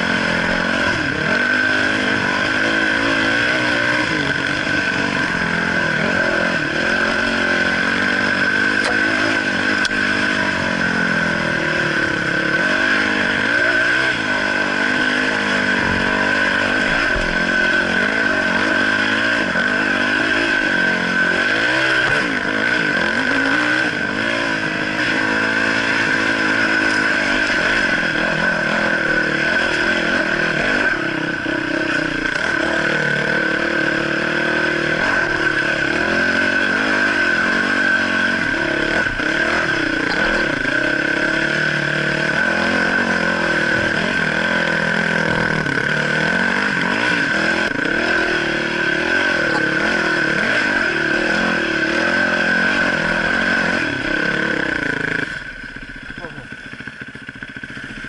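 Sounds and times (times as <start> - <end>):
dirt bike engine revving: 0.0 - 58.0
steady high whine: 0.0 - 58.0.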